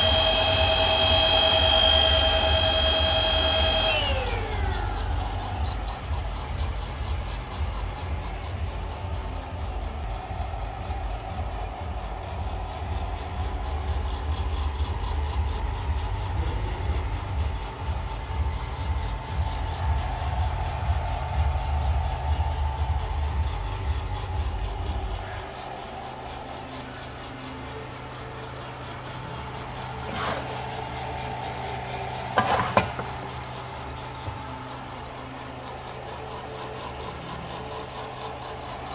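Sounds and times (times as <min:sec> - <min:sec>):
coffee roaster humming: 0:00.0 - 0:38.9.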